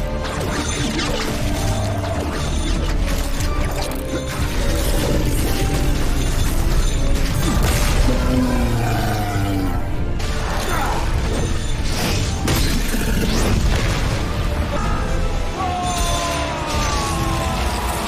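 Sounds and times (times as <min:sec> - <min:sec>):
soundtrack music: 0:00.0 - 0:18.0.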